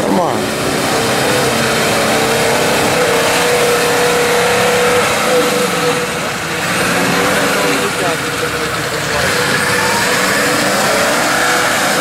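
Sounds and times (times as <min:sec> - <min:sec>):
engine revving hard: 0:00.0 - 0:12.0
mud and water splashing: 0:00.0 - 0:12.0.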